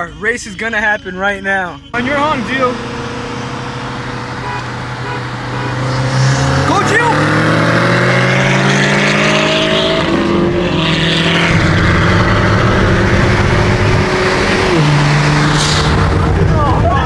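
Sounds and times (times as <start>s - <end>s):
wind and road noise: 1.9s - 17.0s
car engine accelerating hard: 2.0s - 17.0s.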